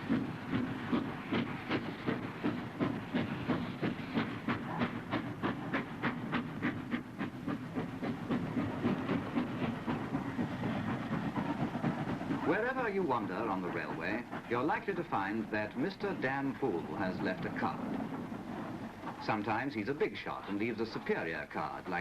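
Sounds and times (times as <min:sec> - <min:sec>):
steam hissing: 0:00.0 - 0:22.0
train wheels clicking: 0:00.0 - 0:22.0.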